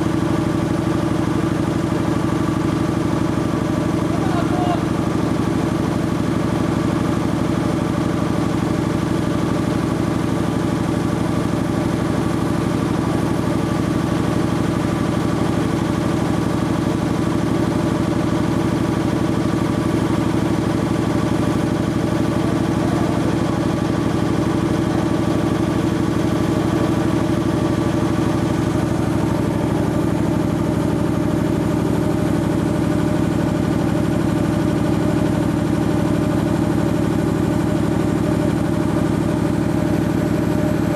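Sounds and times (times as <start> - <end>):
air compressor humming: 0.0 - 40.9.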